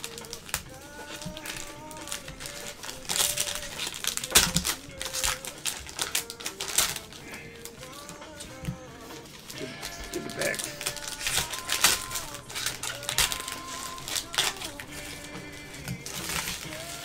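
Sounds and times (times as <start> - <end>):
card pack wrappers crinkling and tearing: 0.0 - 17.0
faint background music: 0.0 - 17.0.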